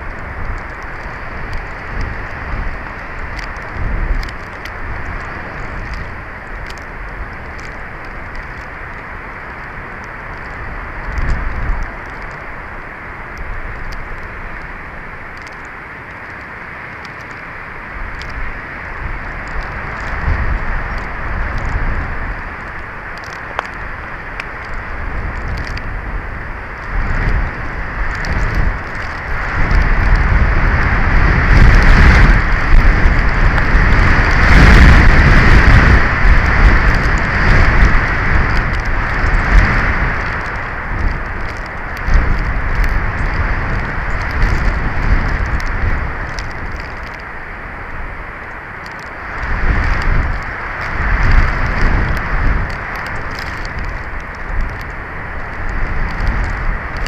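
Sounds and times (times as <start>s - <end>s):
faint ticks: 0.0s - 47.6s, 48.4s - 57.0s
low buffeting rumbles: 0.0s - 57.0s
wind on microphone: 0.0s - 57.0s.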